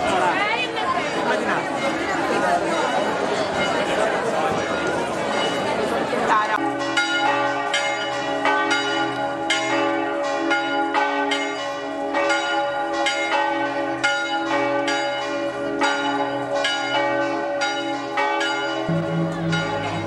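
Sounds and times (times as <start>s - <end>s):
church bells ringing a peal: 0.0s - 20.0s.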